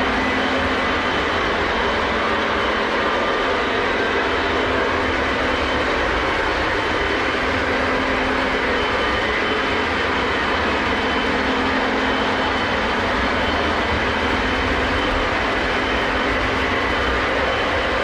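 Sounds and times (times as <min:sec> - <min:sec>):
model trains rumbling on track: 0:00.0 - 0:18.0.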